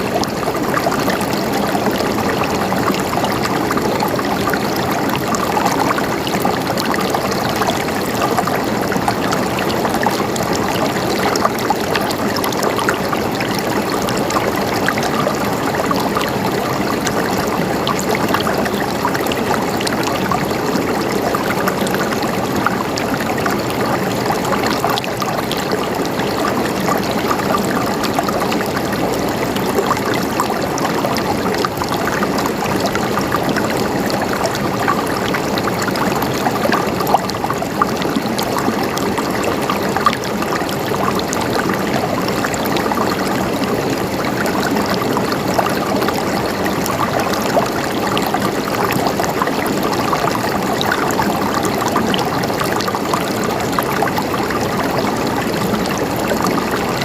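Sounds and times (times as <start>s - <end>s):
water gurgling over rocks: 0.0s - 57.0s.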